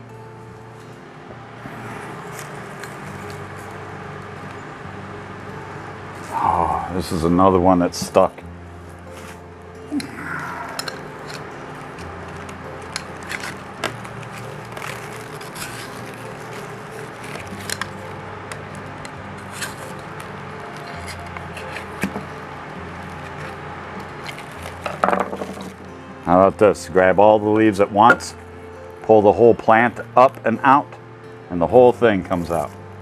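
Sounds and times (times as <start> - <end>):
plant pot scraping and rustling: 1.6 - 28.5, 31.6 - 32.9.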